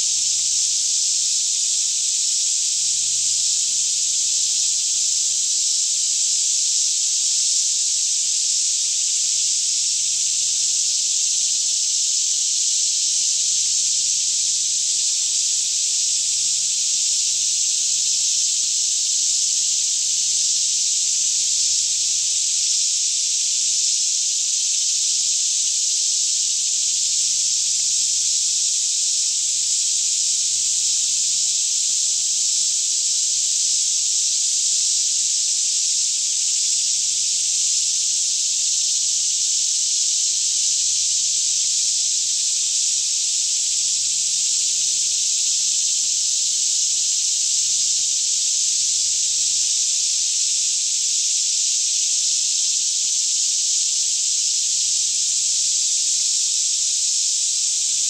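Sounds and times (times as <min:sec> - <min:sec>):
cicadas chorus: 0:00.0 - 0:58.0.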